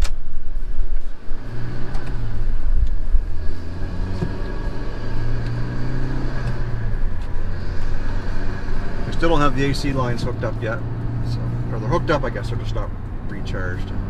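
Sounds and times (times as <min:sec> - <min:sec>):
car engine drone from cabin: 0:00.0 - 0:14.0.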